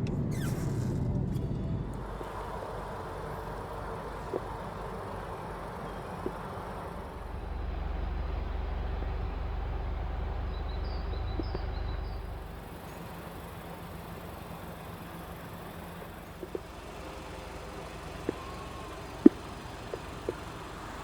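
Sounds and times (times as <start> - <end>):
low rumble of vehicle: 0.0 - 21.0
faint clicks: 1.9 - 21.0.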